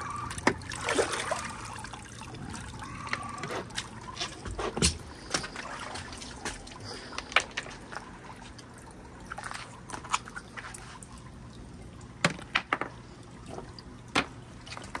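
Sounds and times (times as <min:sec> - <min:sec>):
sharp water drips and plinks: 0:00.0 - 0:15.0
water trickling and dripping: 0:00.0 - 0:15.0.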